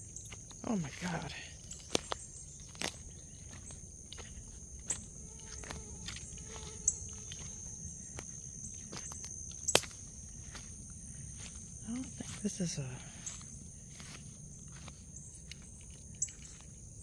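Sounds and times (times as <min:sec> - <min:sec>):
high-pitched insect chorus: 0:00.0 - 0:17.0
footsteps: 0:00.1 - 0:16.8.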